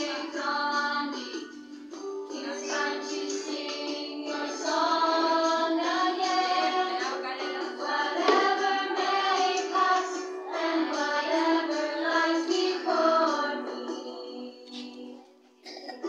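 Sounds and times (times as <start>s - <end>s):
children singing: 0.0s - 1.4s, 2.3s - 16.0s.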